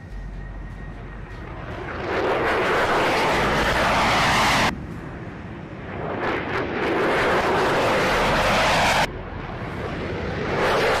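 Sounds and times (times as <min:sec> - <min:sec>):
loud jet engine roar: 0:00.0 - 0:11.0.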